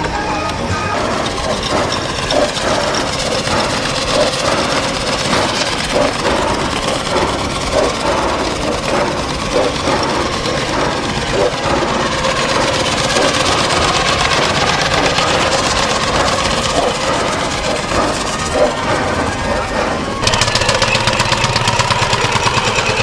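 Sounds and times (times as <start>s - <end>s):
engine running steadily: 0.0s - 23.0s
people talking: 0.0s - 23.0s.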